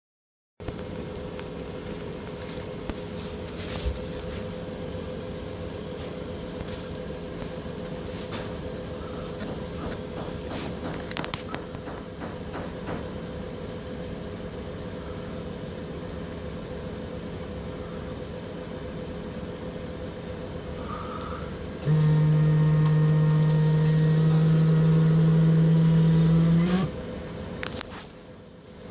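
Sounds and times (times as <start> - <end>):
mechanical hum with whining tones: 0.6 - 28.9.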